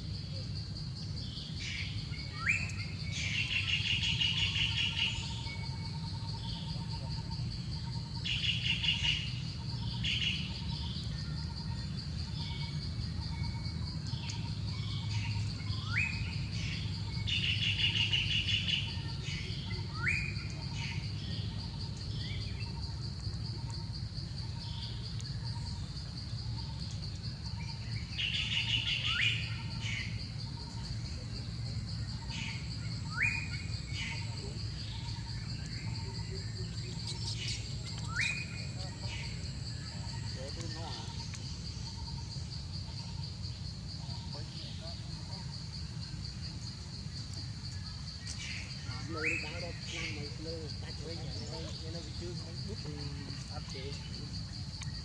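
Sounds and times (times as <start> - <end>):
high insect drone: 0.0 - 55.0
wild birds calling: 0.0 - 55.0.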